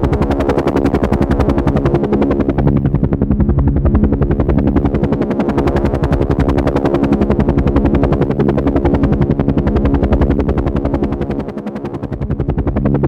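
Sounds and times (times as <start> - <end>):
helicopter engine drone: 0.0 - 13.0
helicopter rotor chopping: 0.0 - 13.0.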